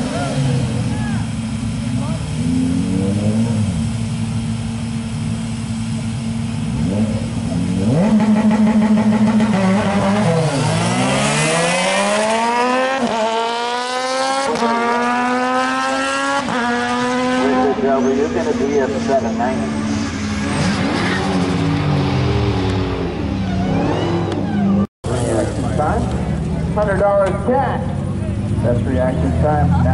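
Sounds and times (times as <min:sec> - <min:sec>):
motorcycle engines revving: 0:00.0 - 0:29.9.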